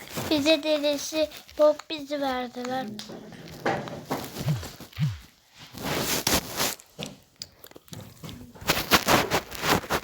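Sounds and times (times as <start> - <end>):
plastic toys clicking and crackling: 0.0 - 5.4, 6.2 - 10.0.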